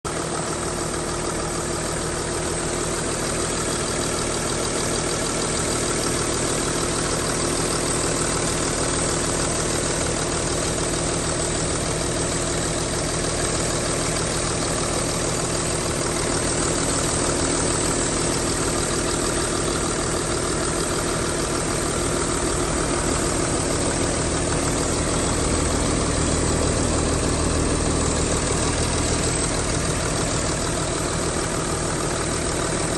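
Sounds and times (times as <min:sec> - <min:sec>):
diesel engine idling: 0:00.1 - 0:32.9.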